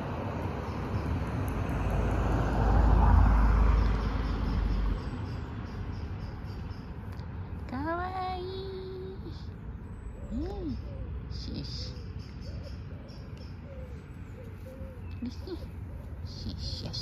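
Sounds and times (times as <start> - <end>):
road traffic rumble: 0.0 - 17.0
vehicle passing: 0.0 - 17.0.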